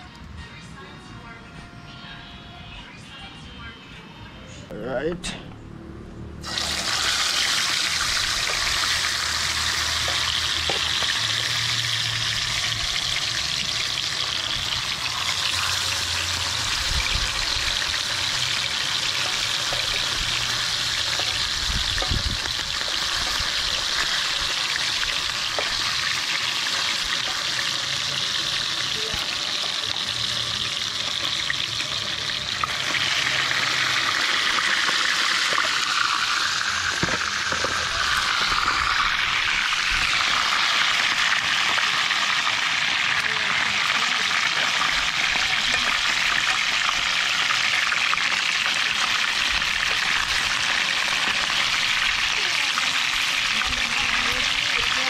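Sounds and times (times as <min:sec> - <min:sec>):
fish sizzling in hot oil: 0:06.4 - 0:55.0.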